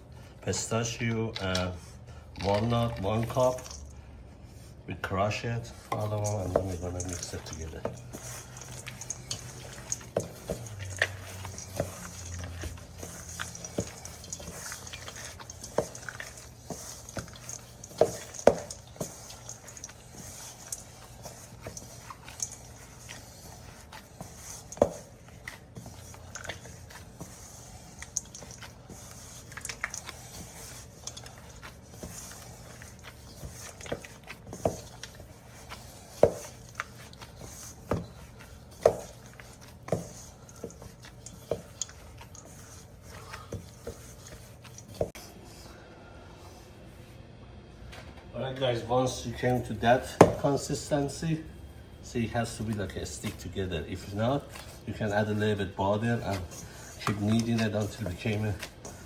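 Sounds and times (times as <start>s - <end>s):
hands squishing dough: 0.0s - 45.8s, 49.0s - 59.0s.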